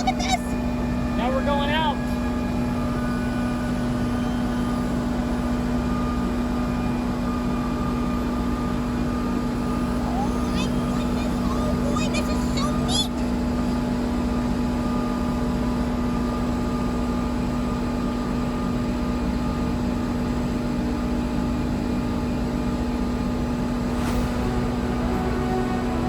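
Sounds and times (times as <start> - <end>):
truck engine and hydraulic pump humming: 0.0 - 26.0.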